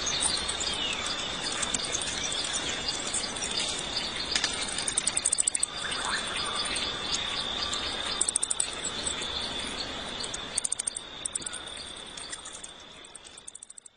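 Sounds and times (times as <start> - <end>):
insects chirping rapidly: 0.0 - 13.9
insects droning: 0.0 - 13.9.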